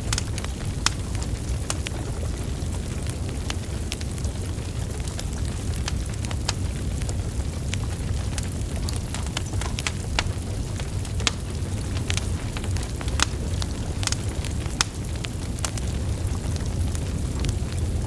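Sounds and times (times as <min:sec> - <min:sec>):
low rumble of flames: 0:00.0 - 0:18.0
wood fire crackles and pops: 0:00.0 - 0:18.0.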